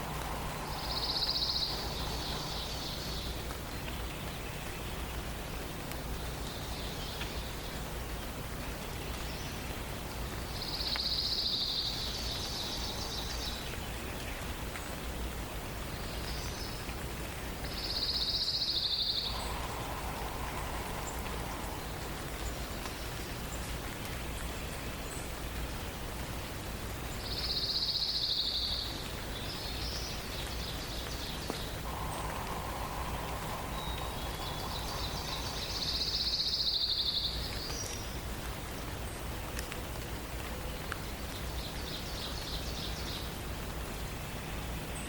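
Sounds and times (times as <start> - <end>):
songbirds singing: 0.0 - 45.0
steady background hiss: 0.0 - 45.0.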